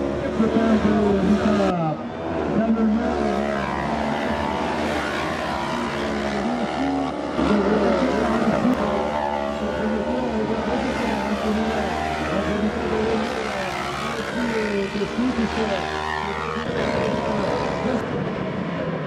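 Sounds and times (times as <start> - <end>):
buggy engines racing at high revs: 0.0 - 19.0.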